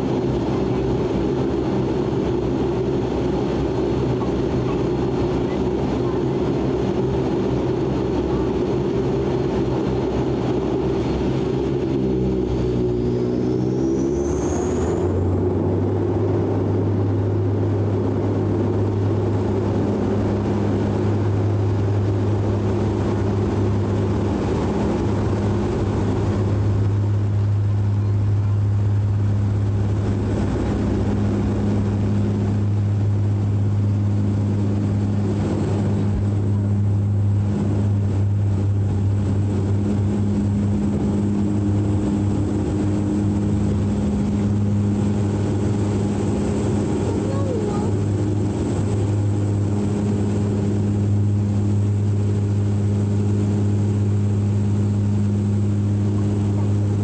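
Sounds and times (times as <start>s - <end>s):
loud propeller drone: 0.0s - 57.0s
turboprop engines spooling up: 0.0s - 57.0s.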